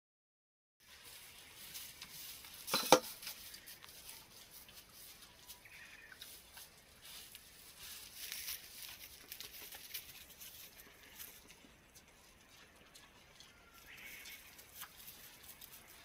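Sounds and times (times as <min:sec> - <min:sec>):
sheep chewing feed: 0:00.8 - 0:16.0.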